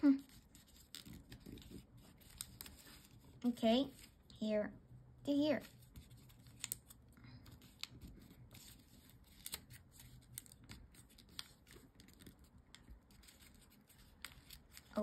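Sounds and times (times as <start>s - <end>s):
paper being folded: 0.0s - 4.4s, 5.5s - 15.0s.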